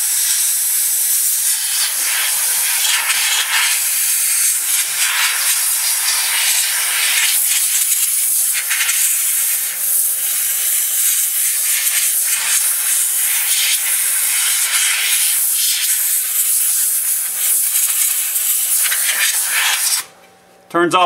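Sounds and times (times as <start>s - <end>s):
air-powered sander hissing: 0.0s - 20.1s.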